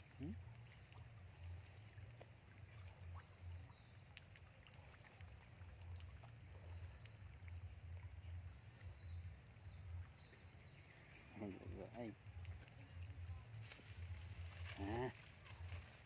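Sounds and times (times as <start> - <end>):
low uneven rumble: 0.0 - 16.0.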